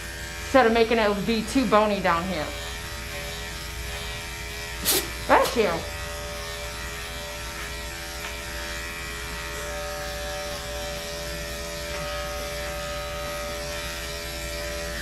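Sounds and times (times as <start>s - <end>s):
electric clipper buzzing: 0.0s - 15.0s.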